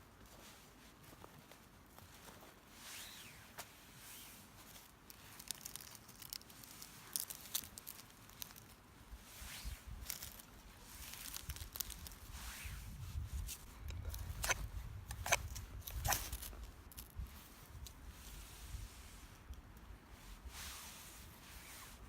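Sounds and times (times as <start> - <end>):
rustling and crinkling handling: 0.0 - 22.0.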